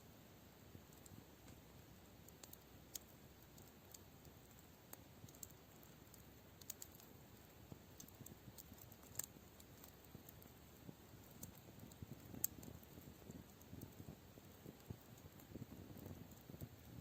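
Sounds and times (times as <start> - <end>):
quiet outdoor background: 0.0 - 17.0
campfire crackling: 0.2 - 17.0.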